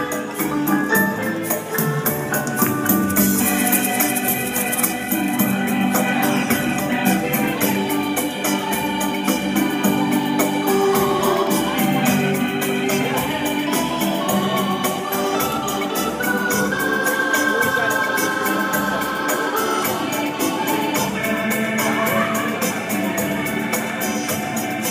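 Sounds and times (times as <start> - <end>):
upbeat dance music: 0.0 - 24.9.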